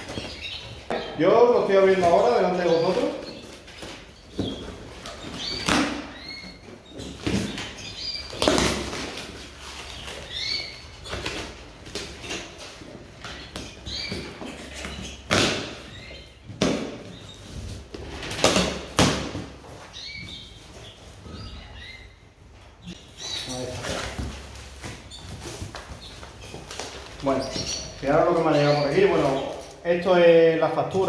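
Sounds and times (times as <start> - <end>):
canaries chirping: 0.0 - 31.0.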